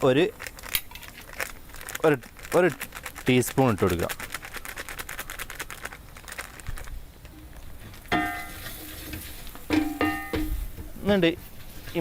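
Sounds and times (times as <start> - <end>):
onions and spices frying crackling: 0.0 - 12.0.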